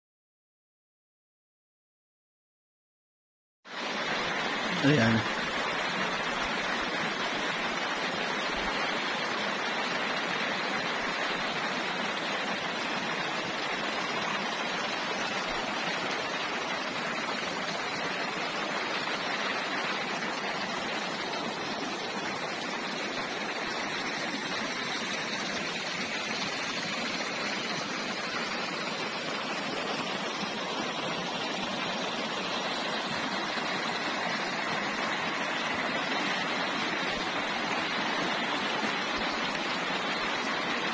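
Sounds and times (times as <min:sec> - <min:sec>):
river rushing: 0:03.7 - 0:40.9.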